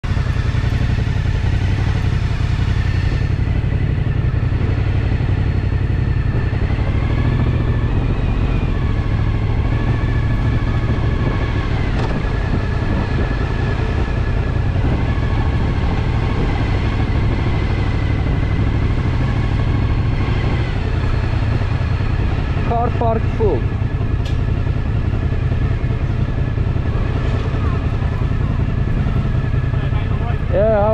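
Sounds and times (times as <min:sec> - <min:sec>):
motorcycle engine rumbling: 0:00.0 - 0:30.9.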